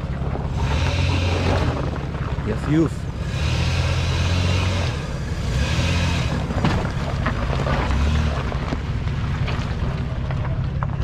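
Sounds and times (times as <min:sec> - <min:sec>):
truck engine running under load: 0:00.0 - 0:11.0.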